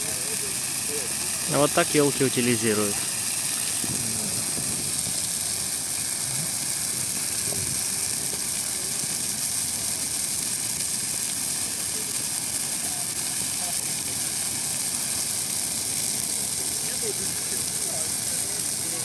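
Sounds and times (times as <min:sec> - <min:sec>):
bonfire burning with hiss: 0:00.0 - 0:19.0.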